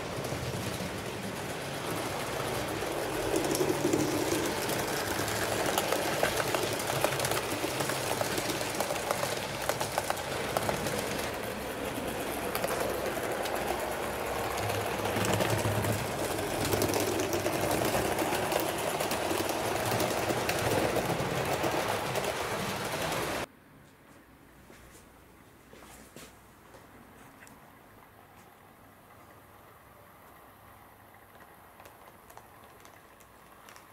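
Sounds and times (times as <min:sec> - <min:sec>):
wheels clicking on rails: 0:00.0 - 0:23.5, 0:27.3 - 0:33.9.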